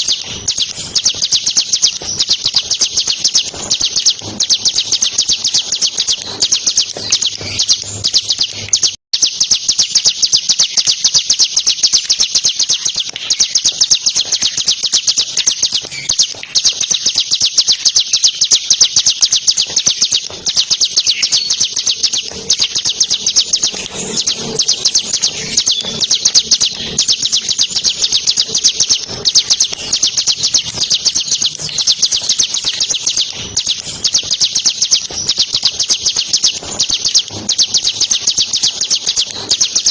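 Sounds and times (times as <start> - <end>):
bird singing rapid high trill: 0.0 - 39.9.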